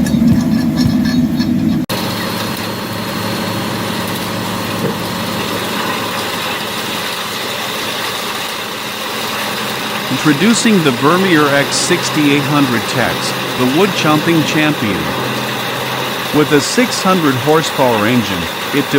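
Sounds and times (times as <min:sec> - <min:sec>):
large machine engine humming: 0:00.0 - 0:18.9.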